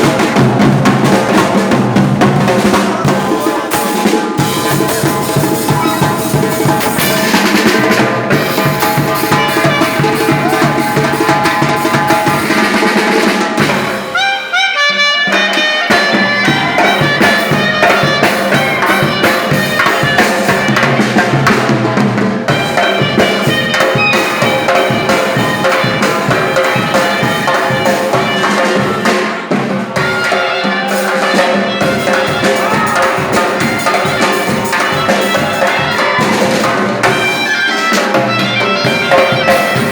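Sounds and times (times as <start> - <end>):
brass lead: 0.0 - 39.9
loud band music: 0.0 - 39.9
steady drum beat: 0.0 - 39.9.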